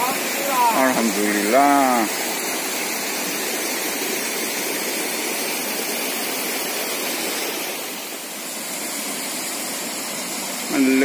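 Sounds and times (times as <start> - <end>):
river current rushing: 0.0 - 11.0.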